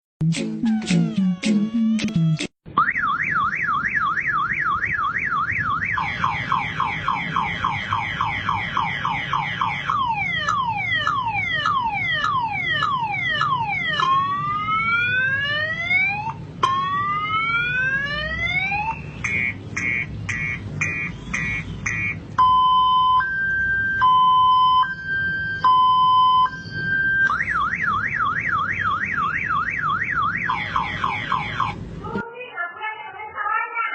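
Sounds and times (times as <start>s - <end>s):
motorcycle alarm siren: 1.6s - 31.8s.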